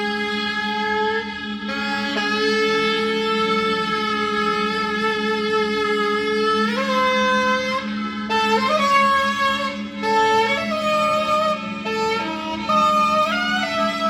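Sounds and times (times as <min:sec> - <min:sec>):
low drone: 0:00.0 - 0:14.0
solo saxophone playing held notes: 0:00.0 - 0:14.0.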